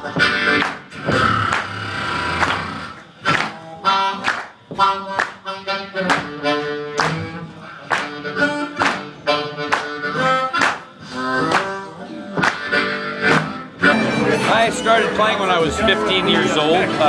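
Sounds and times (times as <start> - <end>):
blues harmonica: 0.0 - 17.0
strummed beat accents: 0.0 - 17.0.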